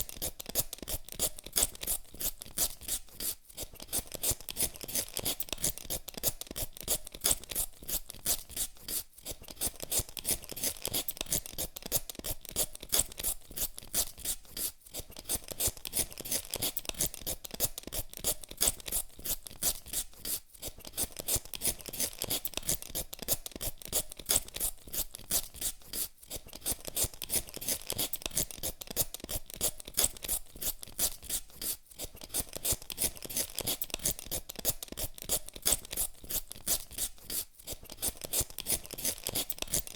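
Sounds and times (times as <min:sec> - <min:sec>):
peeler scraping potato skin: 0:00.0 - 0:39.9.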